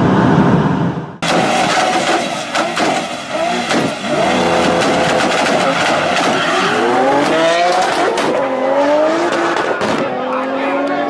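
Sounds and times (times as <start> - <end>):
car engines revving hard: 1.2 - 11.0.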